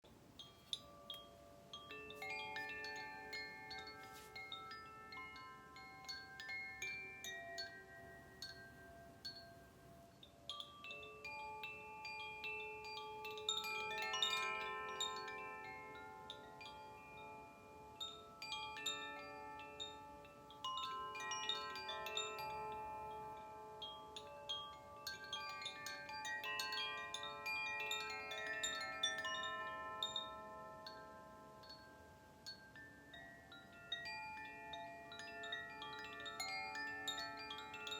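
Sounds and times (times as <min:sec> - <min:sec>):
wind chime tinkling: 0:00.1 - 0:37.9.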